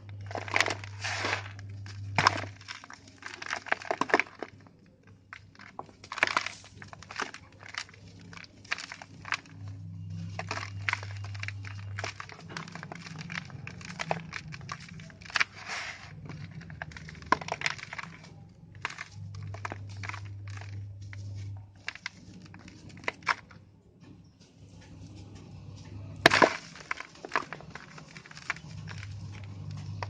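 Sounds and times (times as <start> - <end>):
cement shapes crunching: 0.0 - 30.0
gritty crumbling: 0.0 - 30.0.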